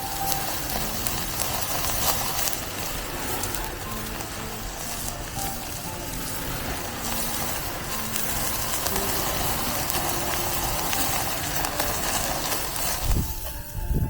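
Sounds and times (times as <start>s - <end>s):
crackling pops: 0.0s - 14.0s
meat sizzling on a grill: 0.0s - 14.0s.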